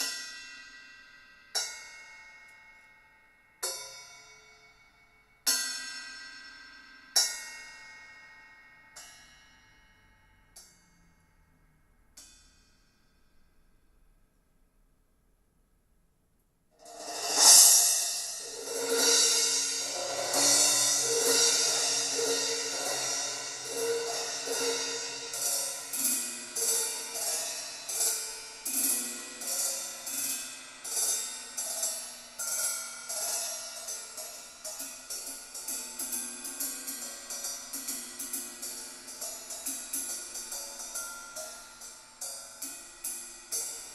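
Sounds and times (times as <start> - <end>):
music with cymbals and hi-hat: 0.0 - 2.8, 3.6 - 11.0, 12.2 - 13.8, 16.8 - 43.9.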